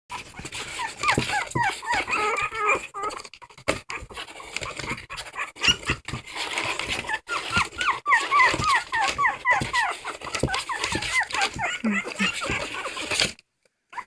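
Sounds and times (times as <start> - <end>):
dog whining: 0.1 - 14.0.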